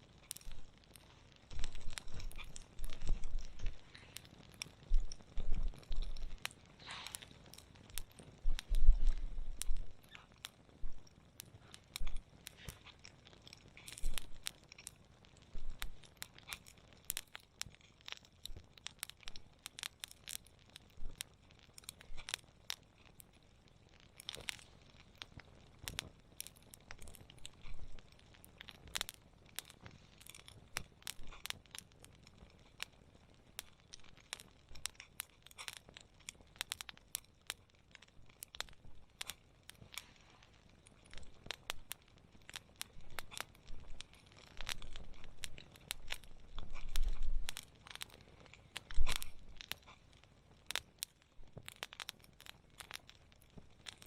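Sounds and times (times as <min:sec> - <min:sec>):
campfire crackling and popping: 0:00.0 - 0:54.0
faint steady hiss: 0:00.0 - 0:54.0.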